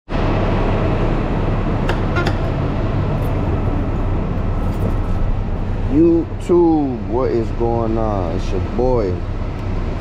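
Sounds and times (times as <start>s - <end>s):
diesel truck engine idling: 0.1s - 10.0s.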